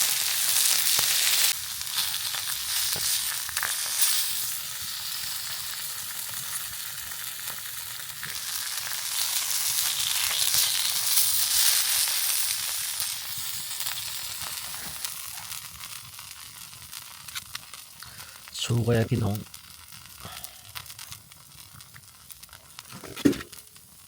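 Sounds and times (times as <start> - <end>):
pork sizzling in a frying pan: 0.0 - 24.0.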